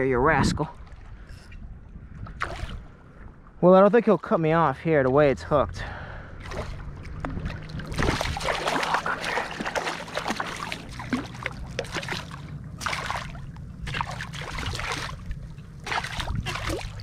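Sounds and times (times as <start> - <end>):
shallow water splashing: 0.7 - 5.3, 6.0 - 17.0.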